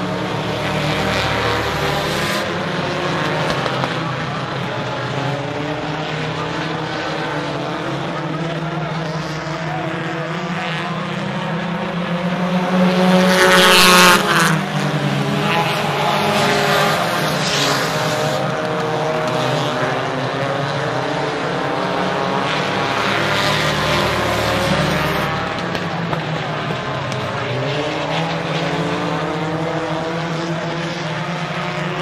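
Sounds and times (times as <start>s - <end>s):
stock car engines racing: 0.0s - 32.0s.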